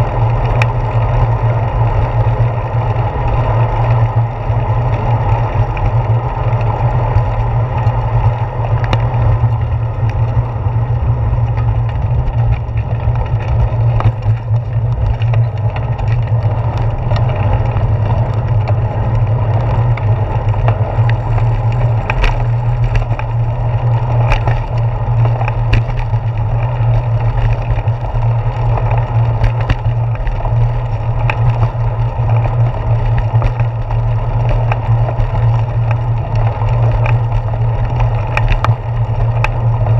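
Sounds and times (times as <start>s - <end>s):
bicycle road noise: 0.0s - 39.9s
wind rumble: 0.0s - 39.9s
clicks and knocks from bumps: 4.9s - 39.9s.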